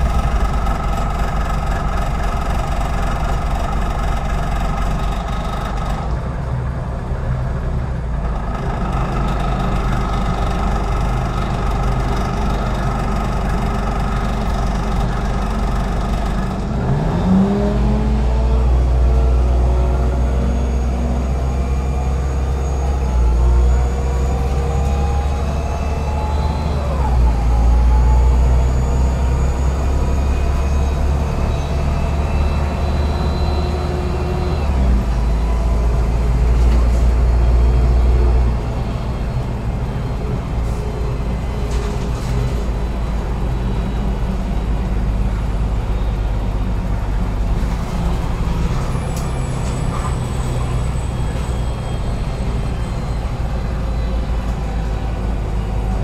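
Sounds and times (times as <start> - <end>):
bus engine droning: 0.0 - 56.0
faint engine whine: 0.0 - 56.0.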